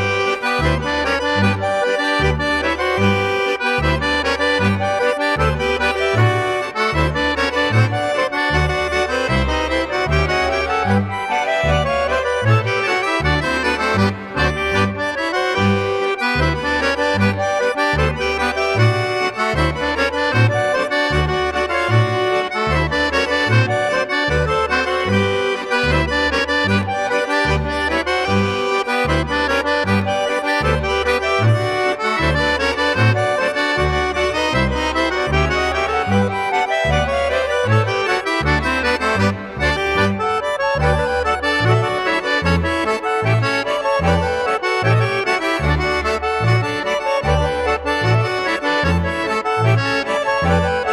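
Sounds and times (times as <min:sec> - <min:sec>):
accordion music with oom-pah bass: 0:00.0 - 0:50.9.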